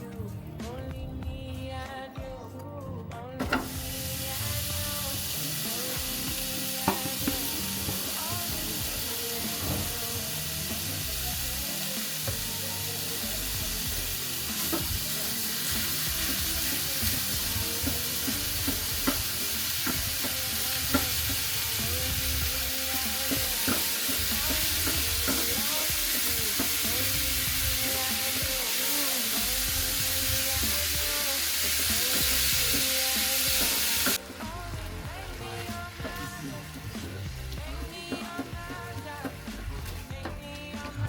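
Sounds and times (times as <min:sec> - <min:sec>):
beef sizzling in a frying pan: 0:03.6 - 0:40.3.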